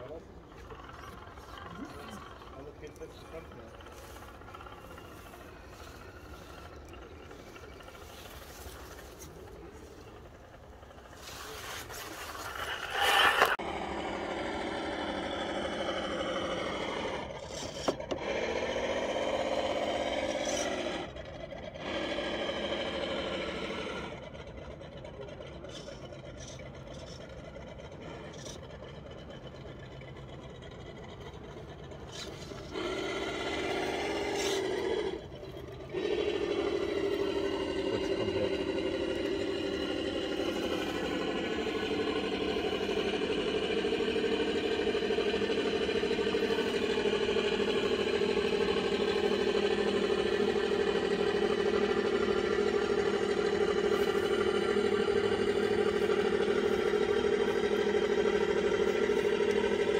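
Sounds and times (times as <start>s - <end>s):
electric motor and gearbox whining: 0.0s - 24.2s, 32.0s - 59.9s.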